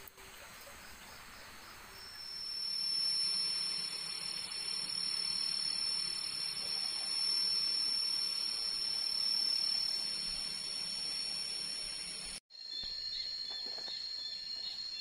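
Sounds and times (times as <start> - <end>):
high-pitched insect chorus: 0.8 - 15.0.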